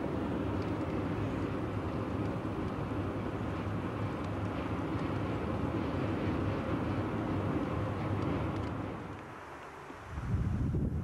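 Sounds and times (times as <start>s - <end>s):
car engine and tyre hum: 0.0s - 11.0s.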